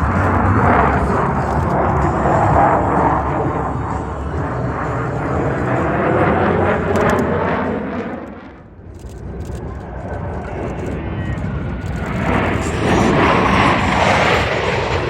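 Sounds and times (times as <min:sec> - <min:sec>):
aircraft engine noise: 0:00.0 - 0:15.0.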